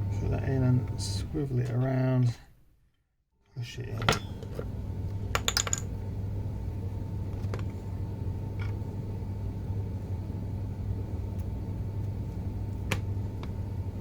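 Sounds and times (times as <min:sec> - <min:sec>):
steady low hum: 0:00.0 - 0:02.8, 0:03.6 - 0:14.0.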